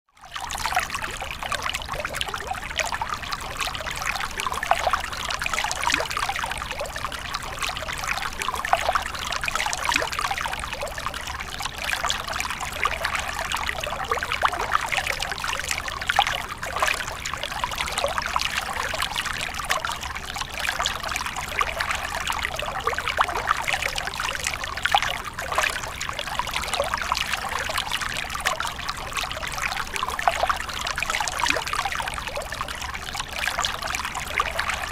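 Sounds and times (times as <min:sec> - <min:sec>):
water trickling and splashing: 0:00.2 - 0:34.9.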